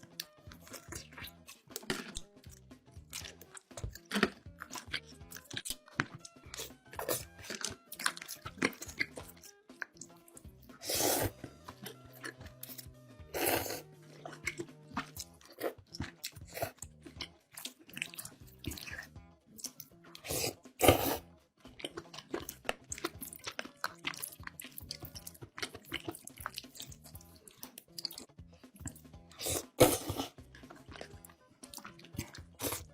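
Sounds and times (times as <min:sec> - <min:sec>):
background music: 0:00.0 - 0:32.9
crunchy chewing of food: 0:00.0 - 0:32.9.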